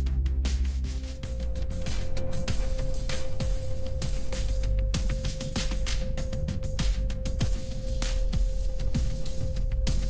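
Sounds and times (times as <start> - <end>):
background music with heavy bass: 0.0 - 10.0.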